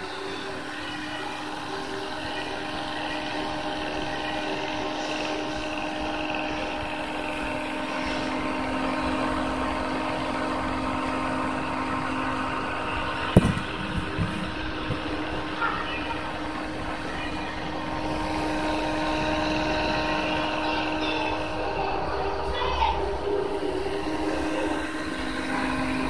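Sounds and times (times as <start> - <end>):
computer fans whirring: 0.0 - 26.0.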